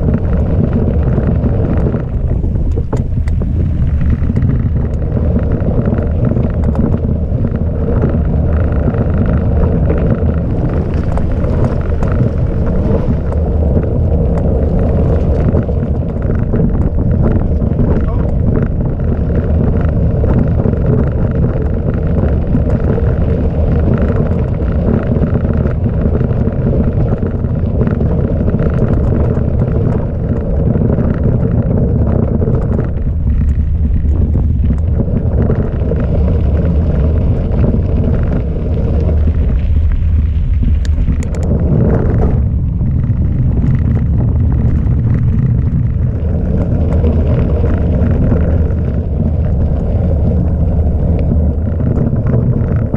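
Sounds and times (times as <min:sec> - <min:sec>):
bike tyres rumbling on gravel: 0:00.0 - 0:52.9
wind buffeting microphone: 0:00.0 - 0:52.9.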